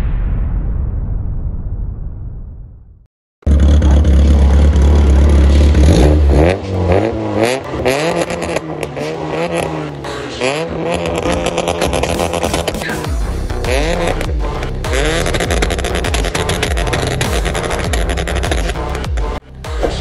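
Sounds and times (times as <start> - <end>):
car engine revving: 3.4 - 20.0.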